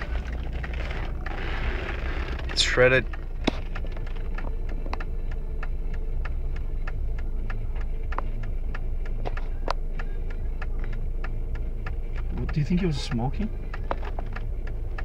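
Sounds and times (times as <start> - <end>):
vehicle motor rumble: 0.0 - 15.0
sharp ticks and pops: 2.0 - 15.0.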